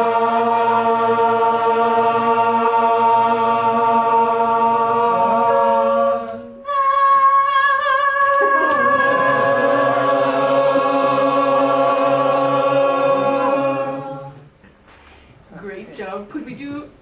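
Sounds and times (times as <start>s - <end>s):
group singing sustained chord: 0.0s - 14.6s.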